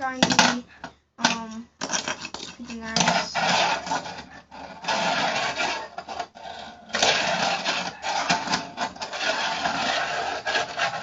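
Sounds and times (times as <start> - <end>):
toys and packaging rustling: 0.0 - 11.0.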